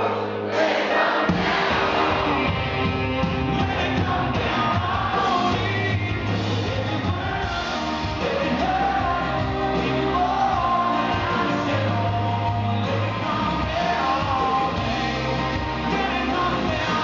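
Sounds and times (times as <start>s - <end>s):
country-rock band playing: 0.0s - 17.0s
man singing: 1.8s - 17.0s.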